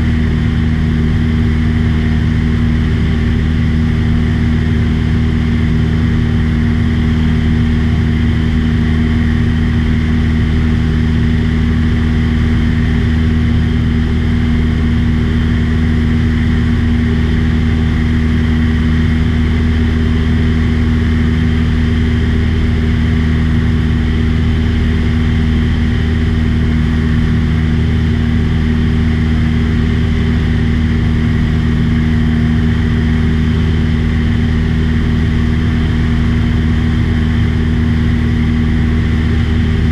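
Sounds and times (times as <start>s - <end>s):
propeller aircraft engine humming: 0.0s - 39.9s.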